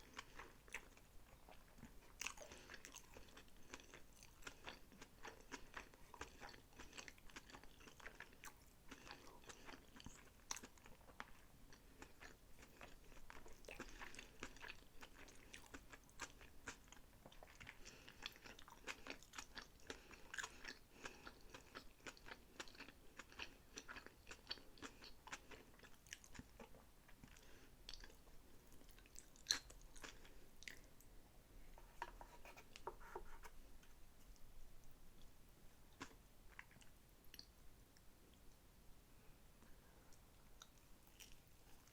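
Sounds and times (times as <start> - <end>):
chewing food: 0.0 - 31.1, 35.2 - 38.6, 39.6 - 41.9.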